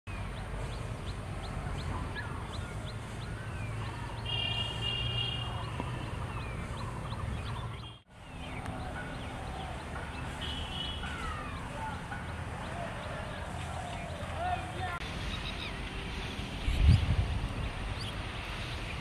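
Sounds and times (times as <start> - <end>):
birds chirping and calling: 0.1 - 15.9.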